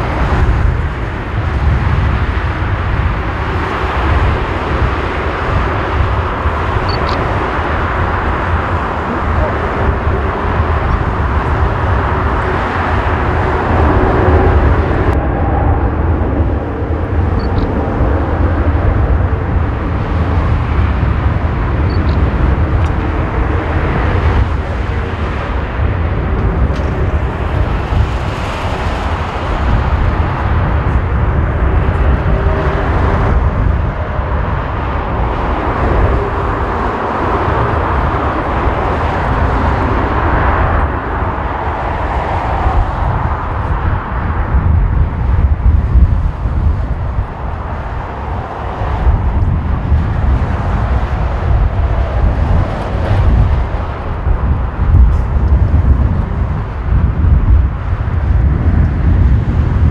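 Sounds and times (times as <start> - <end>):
jet engines roaring at take-off: 0.0 - 59.9.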